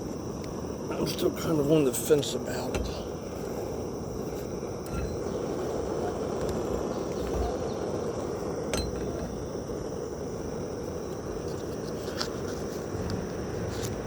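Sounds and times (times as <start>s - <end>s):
camp stove burner rushing: 0.0s - 14.0s.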